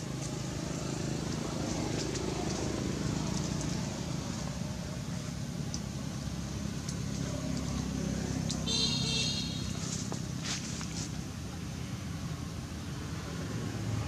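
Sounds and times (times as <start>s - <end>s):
motor engine humming: 0.0s - 11.7s.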